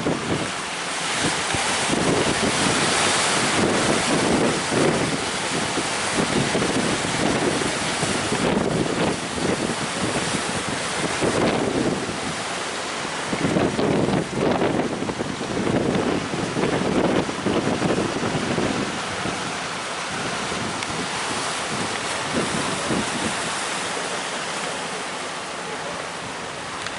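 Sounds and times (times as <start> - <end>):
wind buffeting microphone: 0.0 - 25.2
rough sea waves: 0.0 - 26.9.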